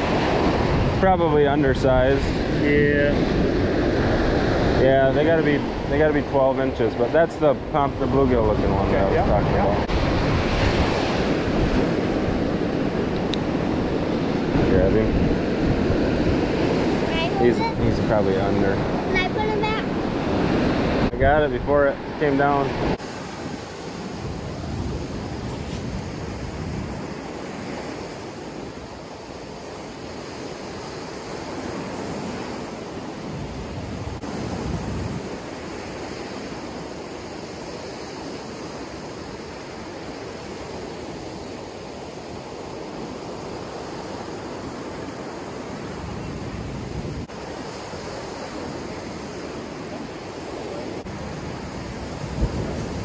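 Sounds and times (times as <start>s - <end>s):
surf breaking on beach: 0.0s - 53.0s
wind rumbling on microphone: 0.0s - 53.0s.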